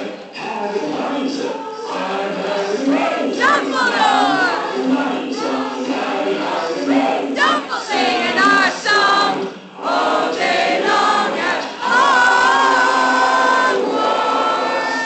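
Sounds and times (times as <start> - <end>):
group singing and chanting: 0.0 - 15.0.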